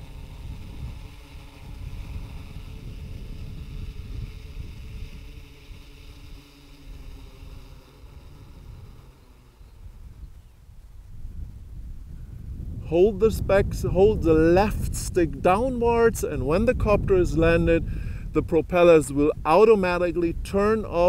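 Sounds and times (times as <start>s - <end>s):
drone propellers humming: 0.0s - 21.0s
wind rumble on microphone: 0.0s - 21.0s.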